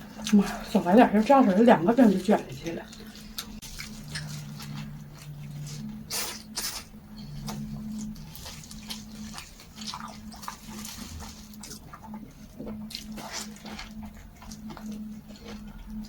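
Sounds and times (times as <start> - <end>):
low hum: 0.0 - 16.0
person chewing food: 0.0 - 16.0.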